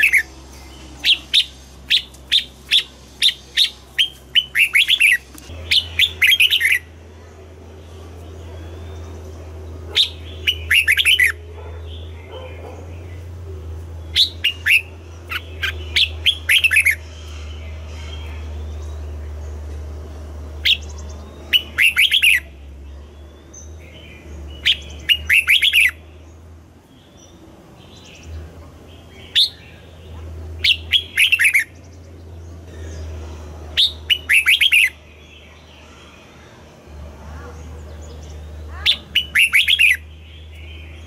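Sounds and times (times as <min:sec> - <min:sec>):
bird singing: 0:00.0 - 0:41.0
steady low hum: 0:00.0 - 0:41.0.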